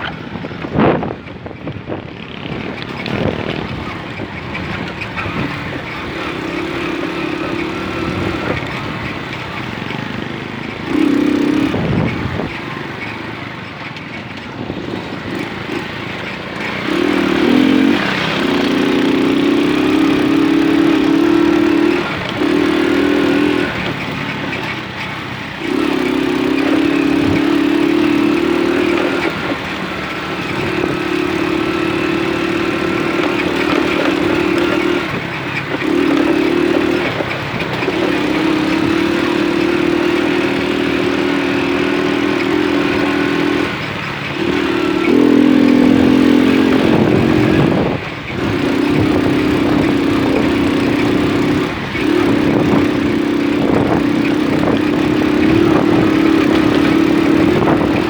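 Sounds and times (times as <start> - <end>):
continuous rushing noise: 0.0 - 58.0
moped engine running: 0.0 - 58.0.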